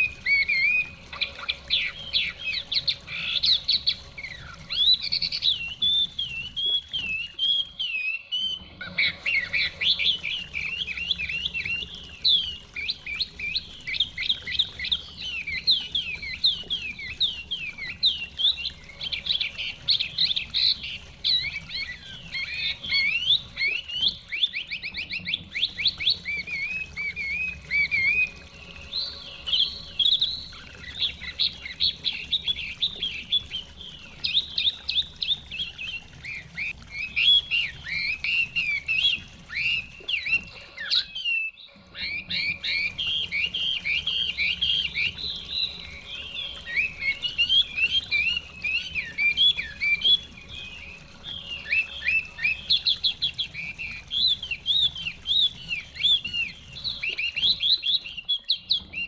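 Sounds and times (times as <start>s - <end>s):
bird singing whistled trills: 0.0s - 59.0s.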